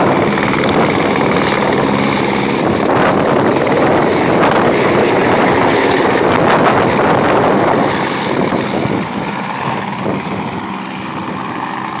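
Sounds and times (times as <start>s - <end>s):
helicopter taking off: 0.0s - 12.0s.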